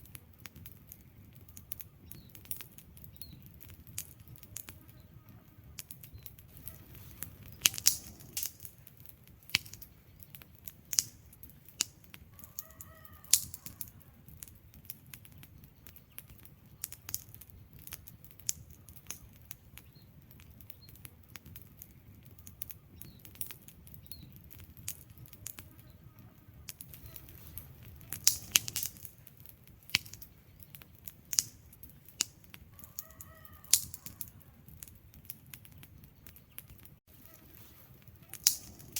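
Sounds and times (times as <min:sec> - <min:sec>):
logs crackling and popping: 0:00.0 - 0:38.9
low rumble of flames: 0:00.0 - 0:38.9.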